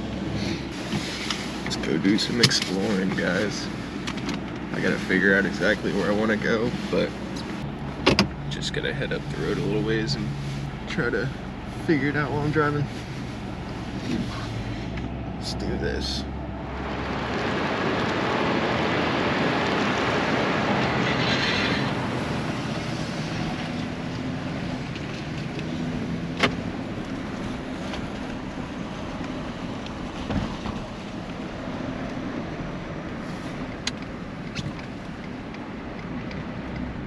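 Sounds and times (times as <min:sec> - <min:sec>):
truck engine and road rumble: 0:00.0 - 0:37.0.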